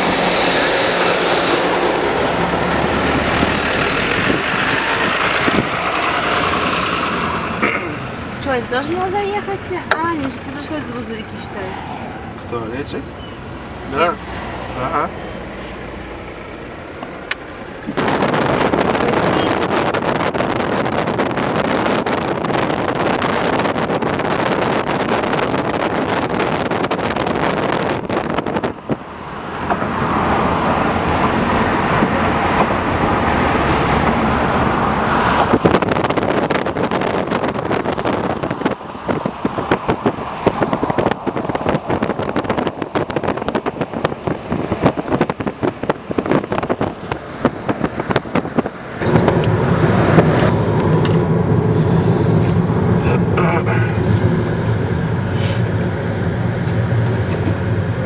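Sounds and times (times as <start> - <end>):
car road and wind noise: 0.0 - 58.0
wind buffeting microphone: 0.0 - 58.0.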